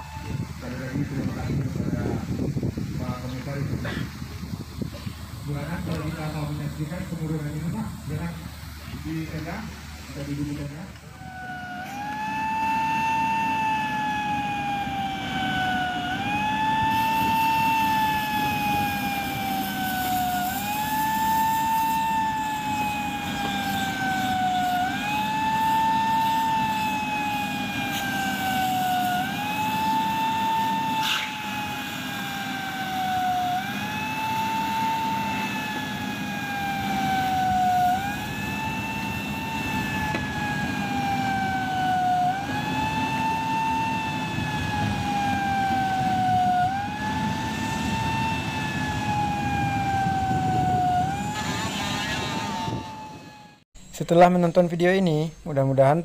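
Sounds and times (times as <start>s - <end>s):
siren wailing: 0.0s - 2.2s, 10.2s - 53.6s.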